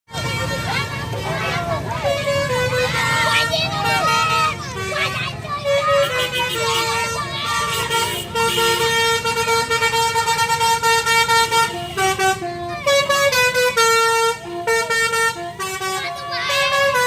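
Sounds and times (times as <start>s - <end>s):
multi-tone bus horn playing tune: 0.1s - 17.0s.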